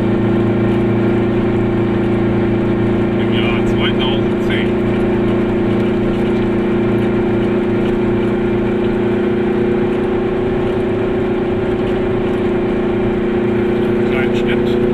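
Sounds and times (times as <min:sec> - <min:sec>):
small car engine droning: 0:00.0 - 0:14.9.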